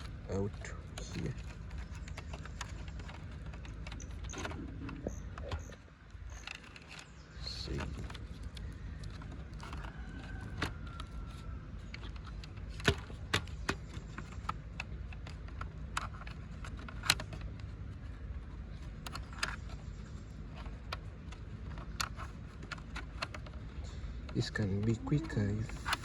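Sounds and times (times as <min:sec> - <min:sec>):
plastic parts clicking and tapping: 0:00.0 - 0:26.0
steady low hum: 0:00.0 - 0:26.0.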